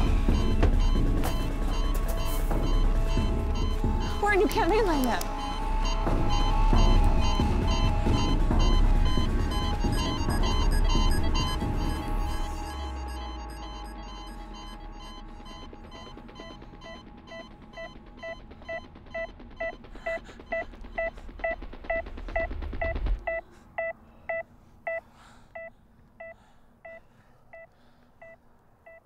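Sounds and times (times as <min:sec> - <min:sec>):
heart monitor beeps: 0:00.0 - 0:29.0.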